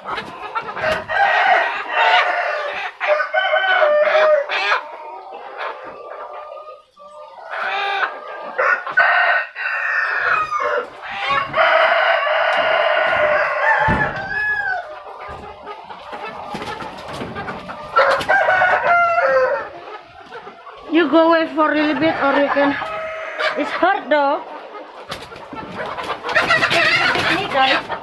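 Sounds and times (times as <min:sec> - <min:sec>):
chickens squawking and clucking: 0:00.0 - 0:28.0.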